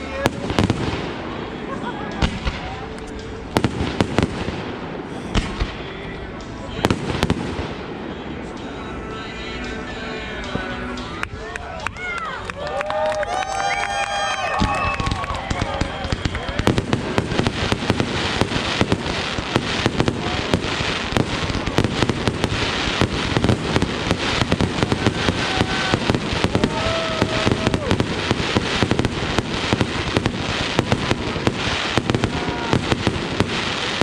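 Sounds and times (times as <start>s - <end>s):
fireworks crackling and banging: 0.0s - 34.0s.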